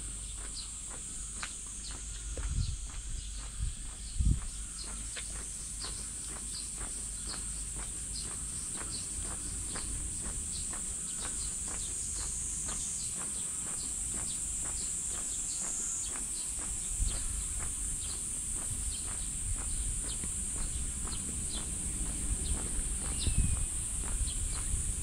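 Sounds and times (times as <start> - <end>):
cicadas droning: 0.0 - 25.0
footsteps on pavement: 0.0 - 25.0.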